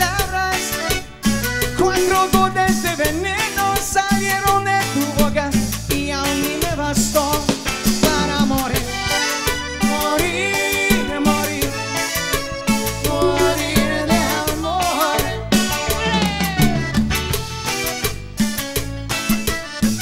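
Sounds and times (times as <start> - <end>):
accordion melody: 0.0 - 20.0
drum kit beat: 0.0 - 20.0
electric bass: 0.0 - 20.0
electric guitars: 0.0 - 20.0.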